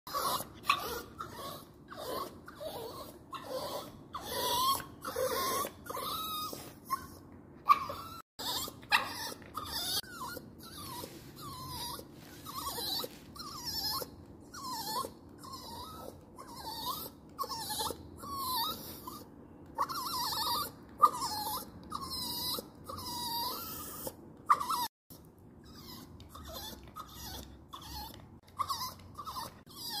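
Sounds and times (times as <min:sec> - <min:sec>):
dog whining: 0:00.1 - 0:30.0.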